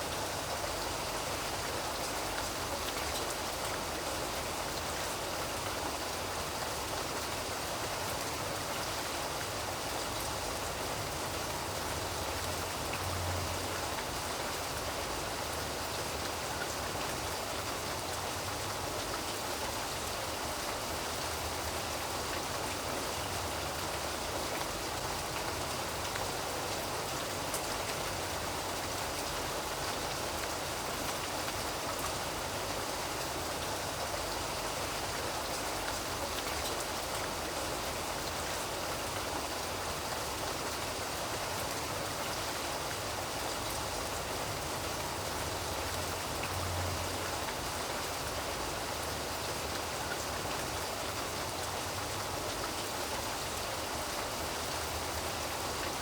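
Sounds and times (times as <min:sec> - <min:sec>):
dense rainfall: 0:00.0 - 0:56.0.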